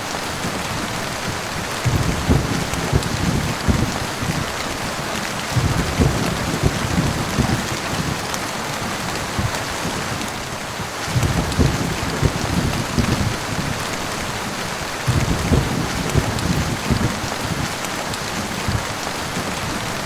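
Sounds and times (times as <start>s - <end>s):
heavy rain pattering: 0.0s - 20.0s
thunder rumbling: 0.4s - 19.9s.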